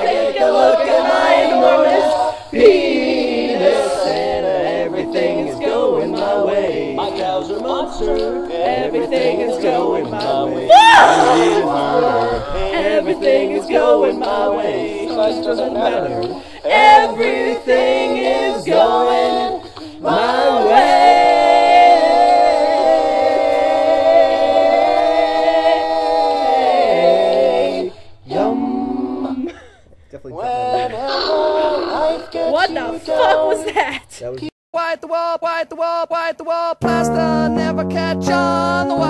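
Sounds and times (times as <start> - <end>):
group singing a cappella: 0.0 - 29.8, 30.4 - 33.9, 36.8 - 39.0.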